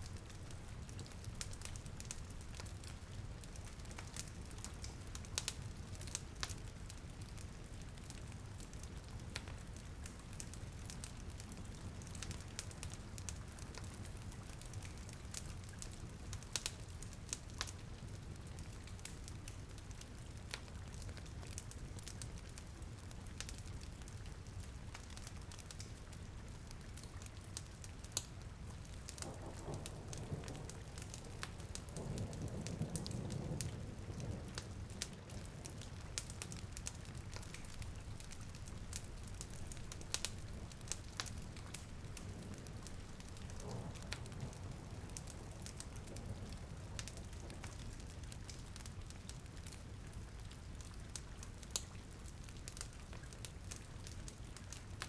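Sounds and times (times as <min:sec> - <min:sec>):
rain hiss: 0:00.0 - 0:55.0
wood fire crackling: 0:00.0 - 0:55.0.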